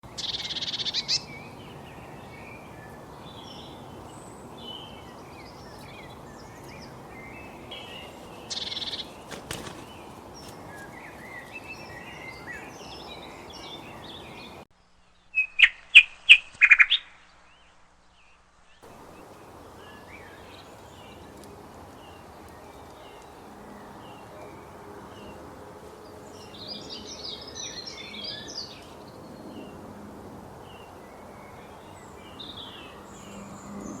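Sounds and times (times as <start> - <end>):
songbirds chirping: 0.0 - 34.0
steady background hiss: 0.1 - 34.0.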